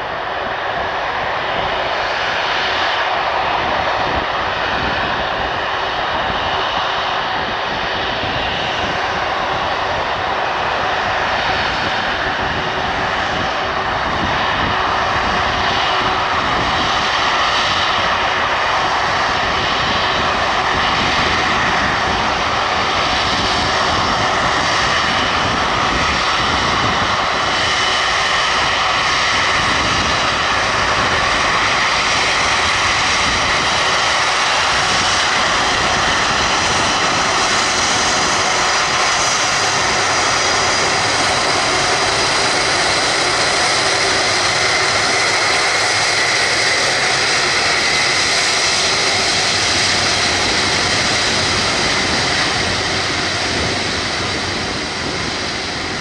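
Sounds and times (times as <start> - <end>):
jet engines whining at taxi: 0.0 - 56.0.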